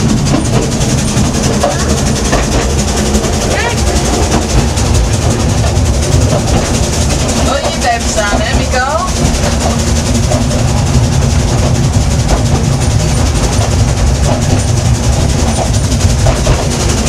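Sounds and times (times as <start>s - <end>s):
railway carriage wheels rumbling: 0.0s - 17.0s.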